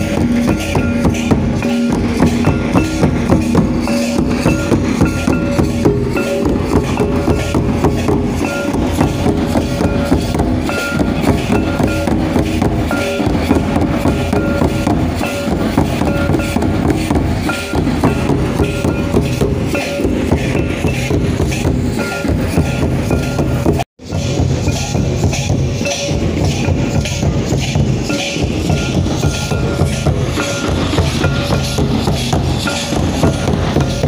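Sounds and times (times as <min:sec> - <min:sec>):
kettle drums beaten fast: 0:00.0 - 0:34.0.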